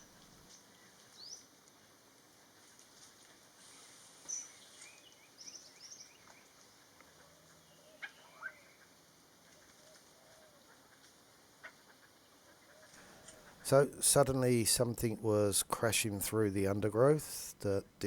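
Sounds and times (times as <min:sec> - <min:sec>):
soft low partridge calls: 0:00.0 - 0:02.7, 0:03.3 - 0:18.0.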